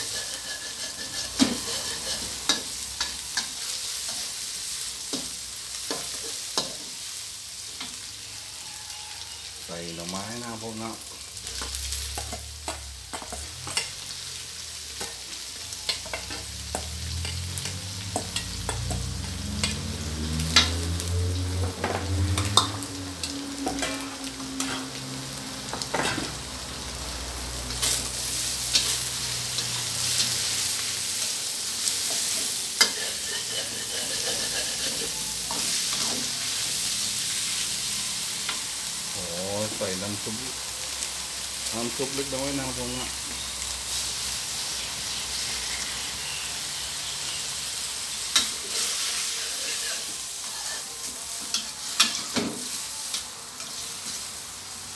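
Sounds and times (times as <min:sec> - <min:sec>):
metal spatula scraping wok: 0:00.0 - 0:07.1, 0:11.1 - 0:26.5, 0:27.7 - 0:39.1, 0:42.7 - 0:54.5
food sizzling in a wok: 0:00.0 - 0:54.9.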